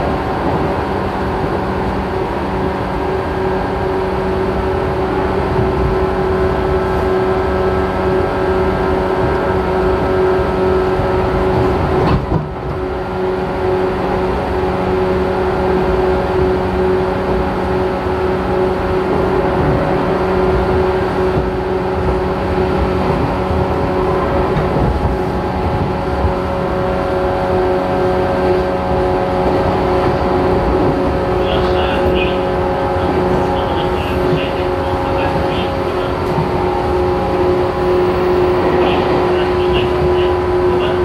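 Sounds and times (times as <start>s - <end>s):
wheels rumbling on rail: 0.0s - 41.0s.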